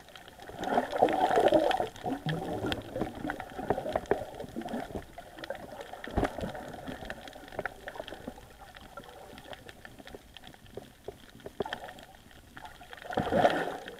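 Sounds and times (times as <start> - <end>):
low water hiss: 0.0 - 13.9
small crackling clicks underwater: 0.0 - 13.9.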